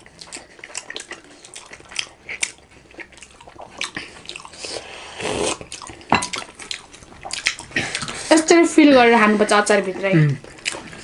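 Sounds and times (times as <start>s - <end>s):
wet chewing and lip smacking: 0.0s - 9.0s, 9.7s - 11.0s.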